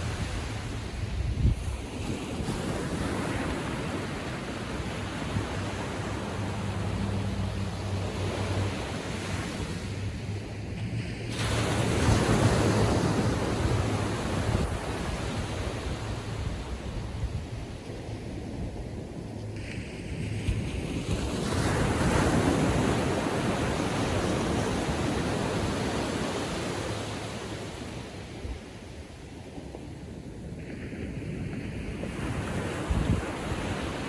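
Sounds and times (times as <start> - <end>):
small waves breaking on beach: 0.0 - 34.0
wind on microphone: 0.0 - 34.0.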